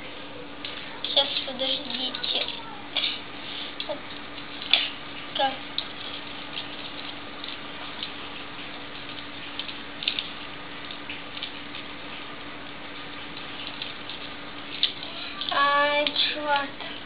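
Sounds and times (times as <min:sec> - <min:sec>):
steady hiss and low hum: 0:00.0 - 0:17.0.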